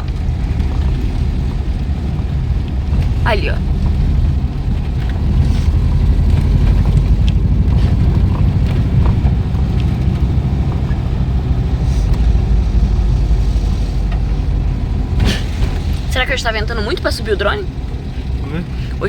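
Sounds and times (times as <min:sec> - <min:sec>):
van engine and road noise: 0:00.0 - 0:19.0.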